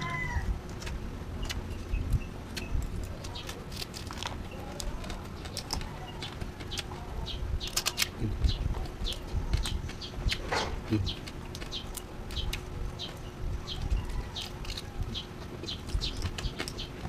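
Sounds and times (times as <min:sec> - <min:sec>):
chewing and cracking crab shells: 0:00.0 - 0:17.0
low background rumble: 0:00.0 - 0:17.0.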